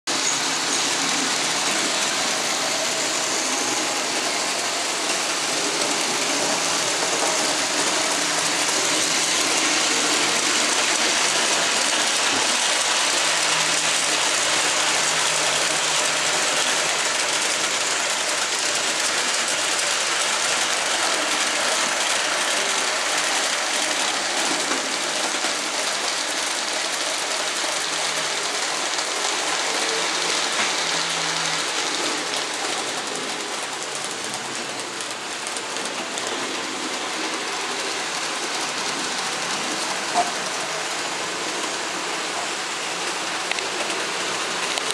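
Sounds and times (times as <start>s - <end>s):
wheels rattling over track: 0.1s - 44.9s
model train motor whirring: 0.2s - 44.9s.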